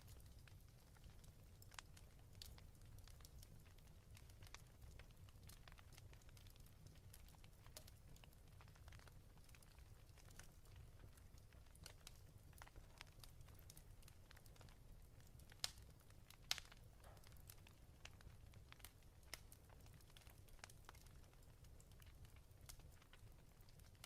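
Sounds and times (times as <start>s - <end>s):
wood fire crackling: 0.0s - 24.0s
fire pops: 3.7s - 24.0s.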